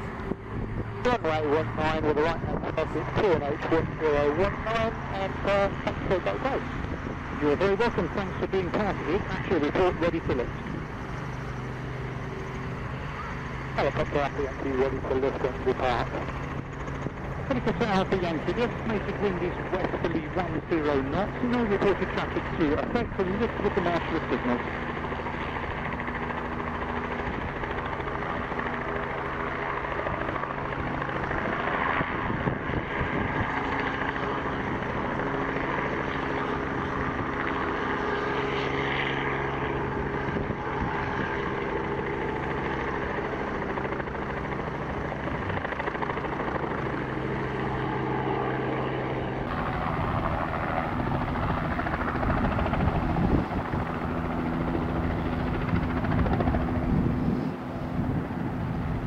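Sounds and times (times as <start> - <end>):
helicopter engine and rotor: 0.0 - 59.0.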